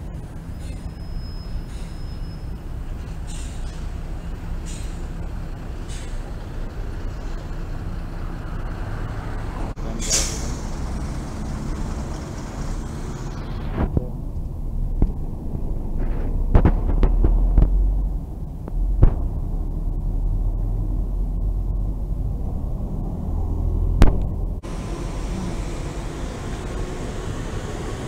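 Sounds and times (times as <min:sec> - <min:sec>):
buses and car traffic passing: 0:00.0 - 0:28.0
deep engine rumble: 0:00.0 - 0:28.0.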